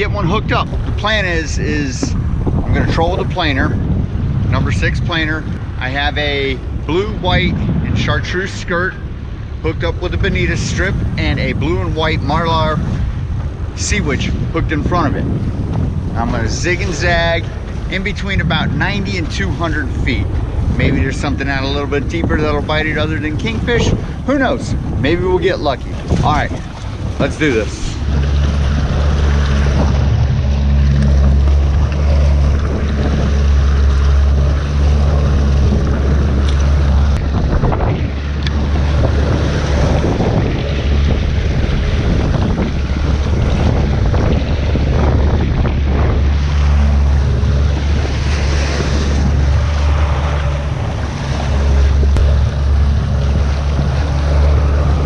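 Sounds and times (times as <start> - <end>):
outboard motor running: 0.0 - 55.0
waves slapping hull: 0.0 - 55.0
wind buffeting microphone: 0.0 - 55.0.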